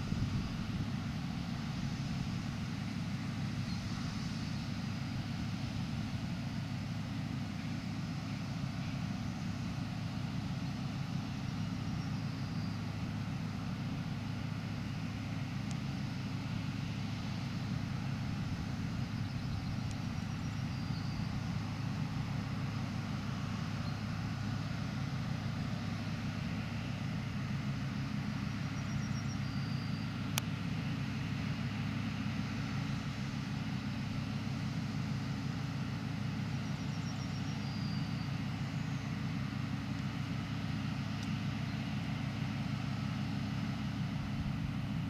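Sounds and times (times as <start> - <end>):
combine harvester engine drone: 0.0 - 45.0.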